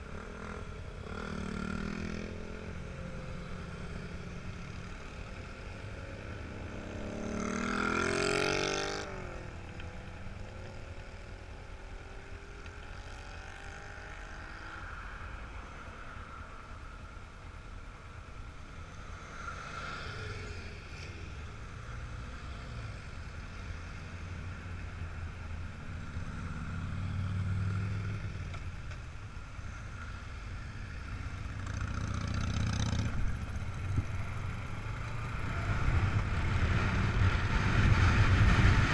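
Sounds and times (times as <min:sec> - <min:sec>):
vehicle engines passing: 0:00.0 - 0:16.7, 0:18.6 - 0:38.9.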